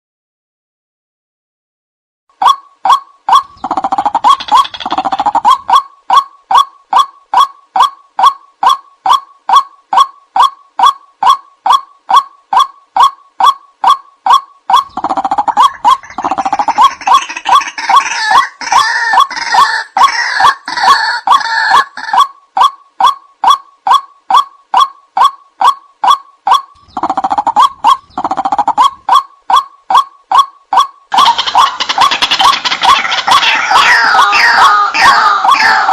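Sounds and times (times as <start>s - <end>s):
bird calling sharp repeated notes: 2.3s - 35.9s
chorus of bird calls: 2.4s - 35.9s.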